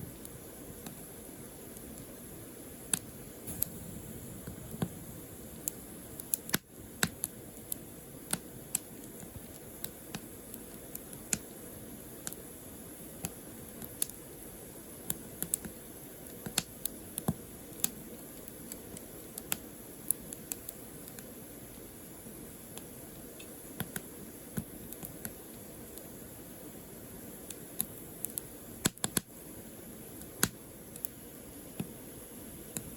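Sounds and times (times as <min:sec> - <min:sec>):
low hiss: 0:00.0 - 0:32.9
firewood crackling and popping: 0:00.1 - 0:26.2, 0:27.1 - 0:32.0.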